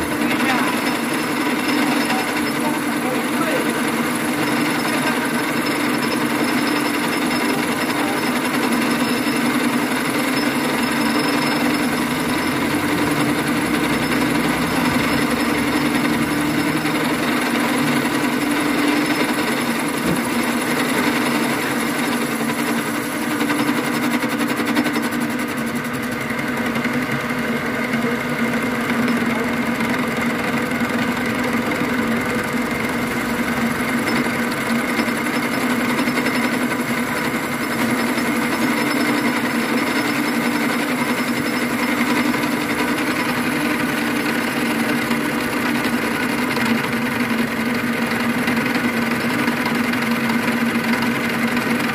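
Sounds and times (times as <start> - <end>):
boring machine humming: 0.0 - 51.9.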